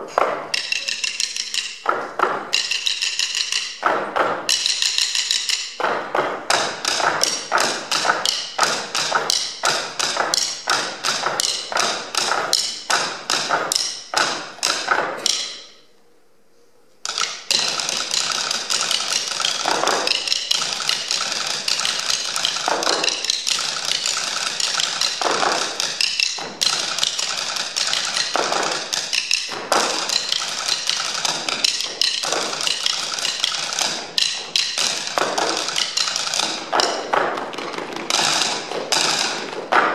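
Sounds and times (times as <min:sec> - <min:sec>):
drumsticks tapping tabletops: 0:00.0 - 0:15.9, 0:17.0 - 0:39.9.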